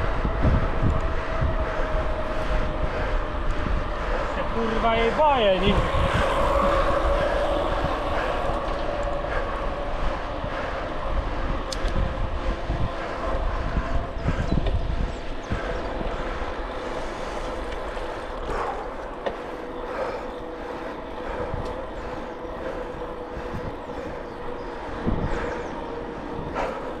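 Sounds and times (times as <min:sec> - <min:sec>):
bicycle tyre hum: 0:00.0 - 0:27.0
wind rumbling on microphone: 0:00.0 - 0:27.0.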